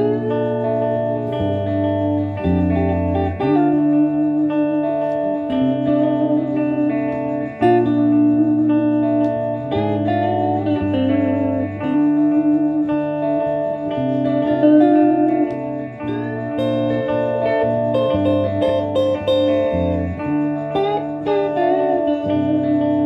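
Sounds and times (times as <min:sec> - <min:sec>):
two guitars playing: 0:00.0 - 0:23.0.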